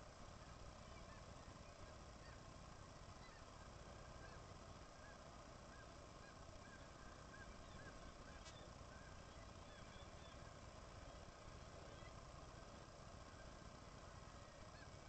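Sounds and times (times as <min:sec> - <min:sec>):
steady background hiss: 0:00.0 - 0:15.0
seabirds calling: 0:00.6 - 0:15.0.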